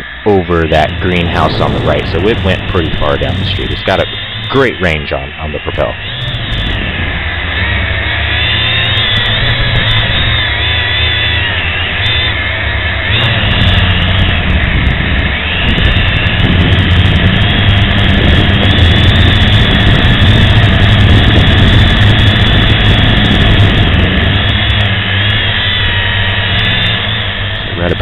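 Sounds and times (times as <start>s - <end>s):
drone propellers whining: 0.0s - 28.0s
heavy low rumble: 0.0s - 28.0s.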